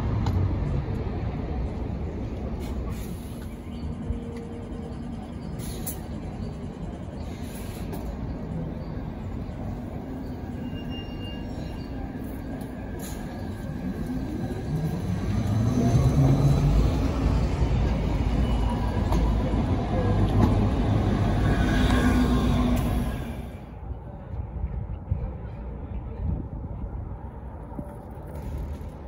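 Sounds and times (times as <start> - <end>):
bus engine rumble: 0.0 - 29.0.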